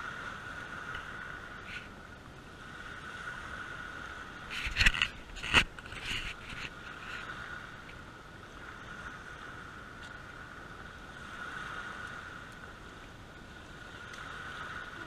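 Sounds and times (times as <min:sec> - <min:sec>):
small waves on sandy shore: 0:00.0 - 0:15.0
wind: 0:00.0 - 0:15.0.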